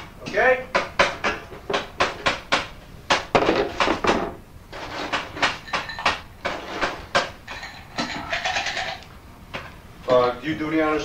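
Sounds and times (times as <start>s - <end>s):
hard objects clattering on a table: 0.8s - 9.8s.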